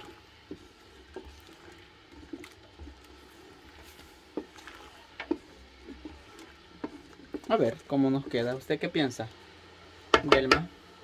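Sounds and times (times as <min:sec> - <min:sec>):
fruit stirred in liquid: 0:00.0 - 0:10.7.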